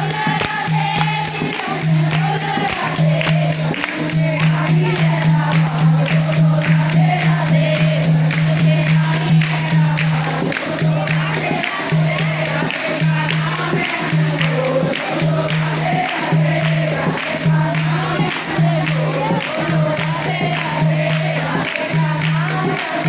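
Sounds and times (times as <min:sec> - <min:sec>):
hand drum beat: 0:00.0 - 0:23.0
jingling hand percussion: 0:00.0 - 0:23.0
voices singing together: 0:00.0 - 0:23.0.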